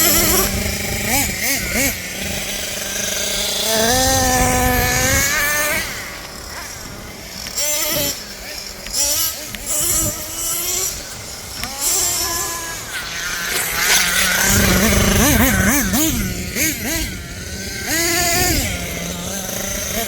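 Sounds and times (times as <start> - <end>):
small nitro engines revving: 0.0 - 20.0.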